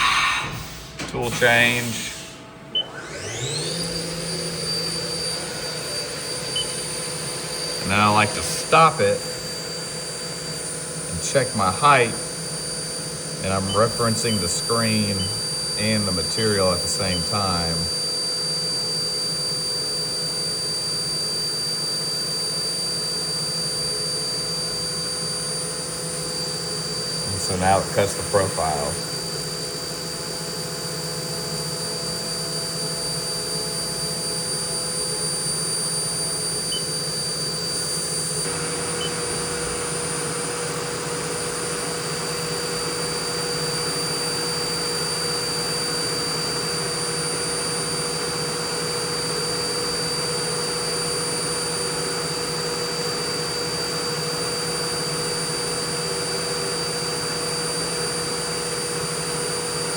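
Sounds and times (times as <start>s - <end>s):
mill spindle high whine: 0.0s - 59.9s.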